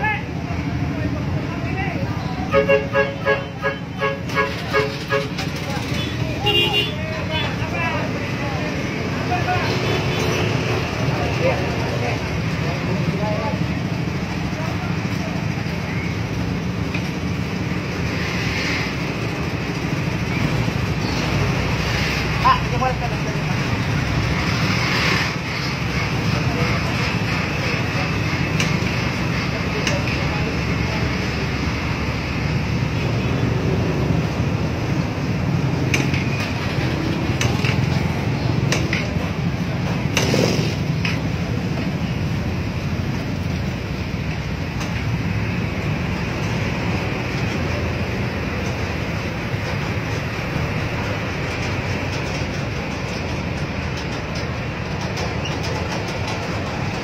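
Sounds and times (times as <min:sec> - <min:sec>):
engines idling in traffic jam: 0:00.0 - 0:57.0.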